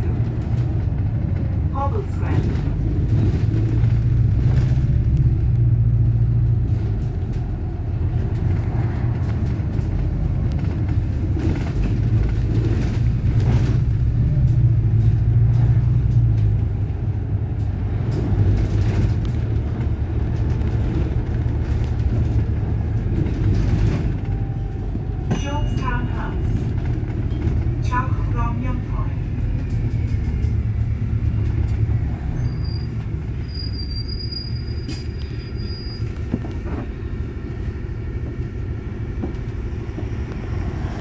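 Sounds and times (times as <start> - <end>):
bus engine and road rumble: 0.0 - 41.0.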